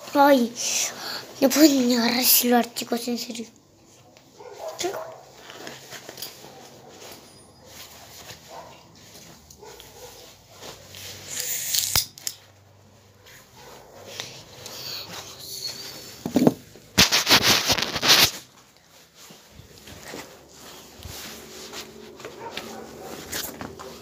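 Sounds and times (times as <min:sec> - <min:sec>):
rustling on a phone microphone: 0:03.1 - 0:11.4, 0:12.4 - 0:24.0.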